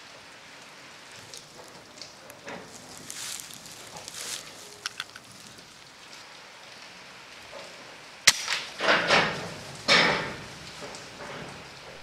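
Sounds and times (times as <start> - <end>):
rain falling on shed roof: 0.0 - 12.0.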